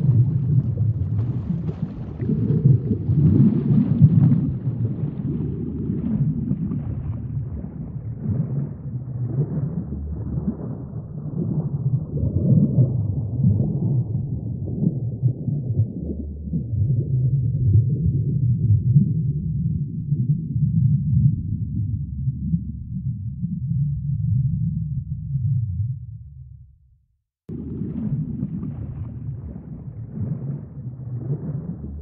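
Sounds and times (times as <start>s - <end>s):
low surging underwater rumble: 0.0s - 26.8s, 27.5s - 32.0s.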